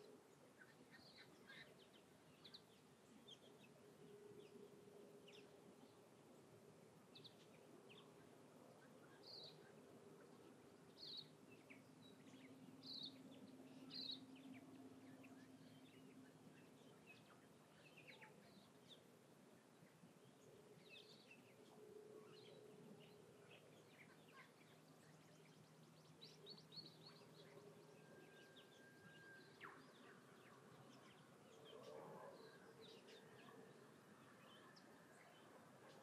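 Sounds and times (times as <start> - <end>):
faint low drone: 1.8 - 35.8.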